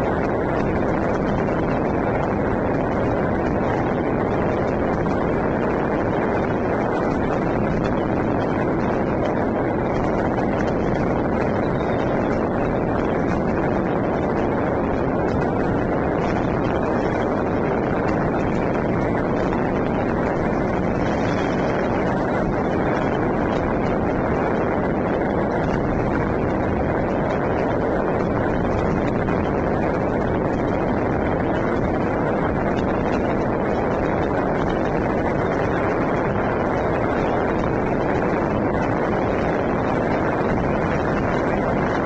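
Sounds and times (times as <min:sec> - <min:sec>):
firecrackers and fireworks banging: 0:00.0 - 0:42.0.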